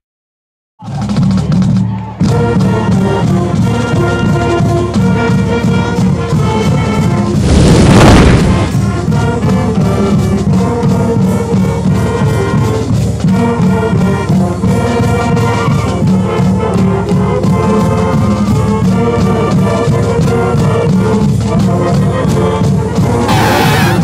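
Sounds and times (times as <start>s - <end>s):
steady drum beat: 0.8s - 24.0s
brass instrumental music: 2.2s - 24.0s.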